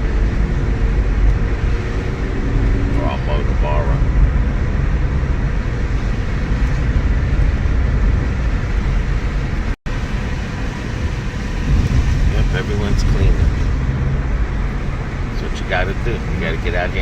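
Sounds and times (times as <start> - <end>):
car road noise from inside: 0.0 - 17.0.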